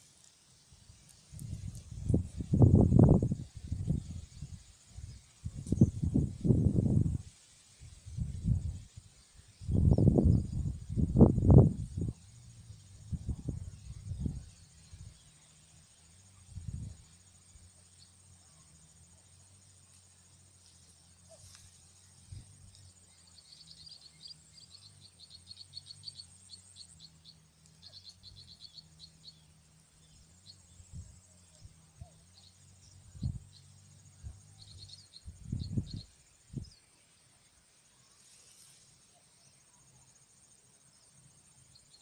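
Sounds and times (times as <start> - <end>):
insect trill: 0.0 - 42.0.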